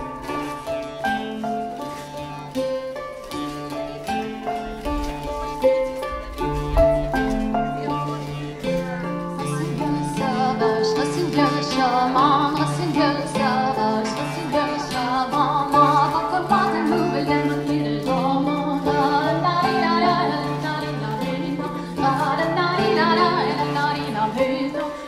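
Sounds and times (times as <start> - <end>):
cello: 0.0 - 25.0
guitar: 0.0 - 25.0
harp: 0.0 - 25.0
person singing wavering melody: 3.6 - 25.0.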